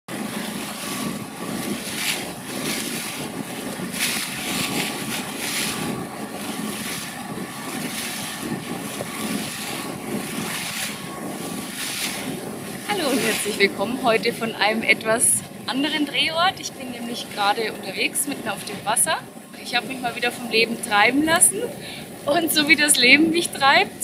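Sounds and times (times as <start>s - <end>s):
boat engine running: 0.1s - 24.0s
water splashing along hull: 0.1s - 24.0s
wind gusting on microphone: 0.1s - 24.0s.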